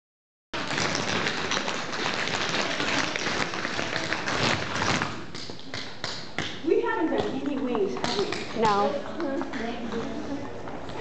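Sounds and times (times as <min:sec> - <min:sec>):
tap shoes on wooden floor: 0:00.7 - 0:09.7.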